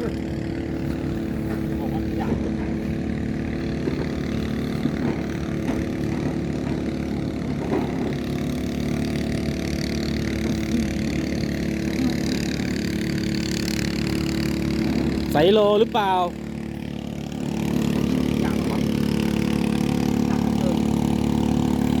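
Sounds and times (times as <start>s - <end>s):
engine droning hum: 0.0s - 22.0s.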